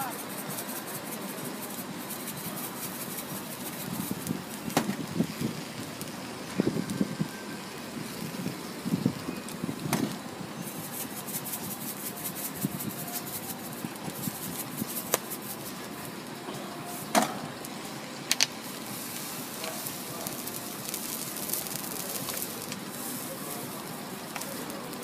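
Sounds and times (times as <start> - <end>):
crepes sizzling on griddle: 0.0 - 25.0.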